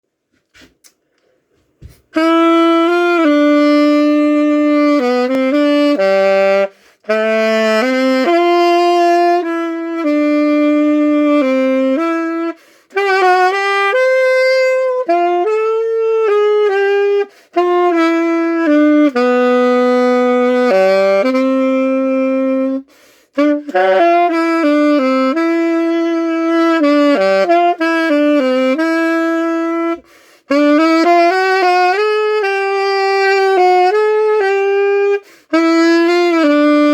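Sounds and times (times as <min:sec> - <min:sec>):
wind instrument slow melody: 0:02.1 - 0:36.9.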